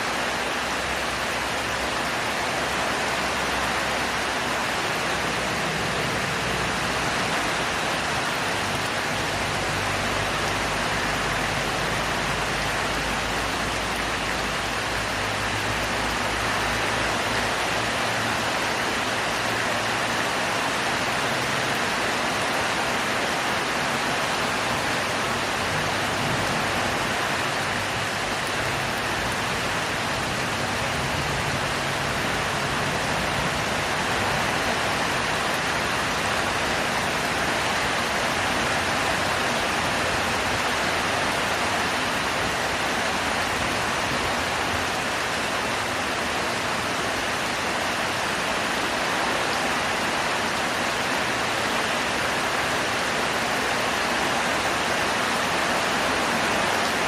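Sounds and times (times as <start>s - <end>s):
heavy rain downpour: 0.0s - 57.0s.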